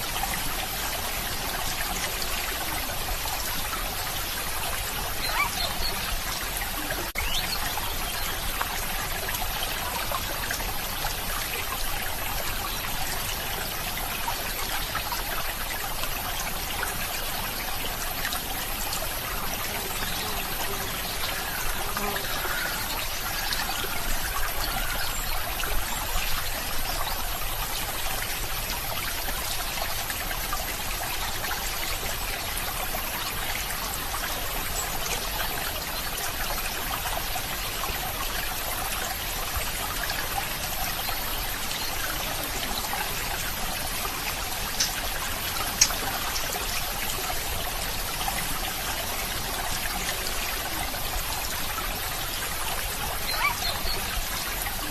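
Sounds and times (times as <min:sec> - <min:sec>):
stream trickling and splashing: 0:00.0 - 0:54.9.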